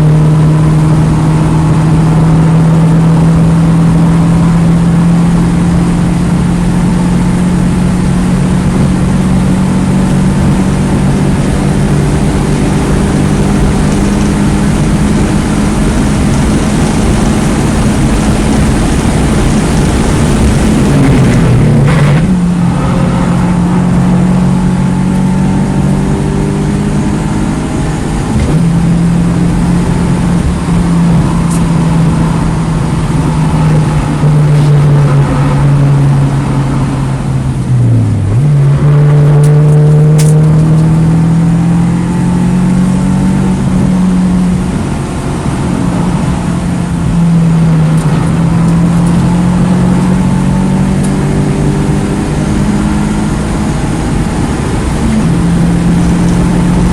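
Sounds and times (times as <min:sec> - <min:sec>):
car engine pulling hard: 0:00.0 - 0:56.9.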